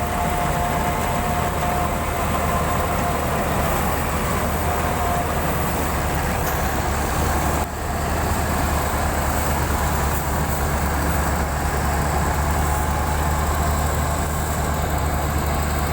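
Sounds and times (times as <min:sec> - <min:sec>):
combine harvester engine drone: 0:00.0 - 0:15.9.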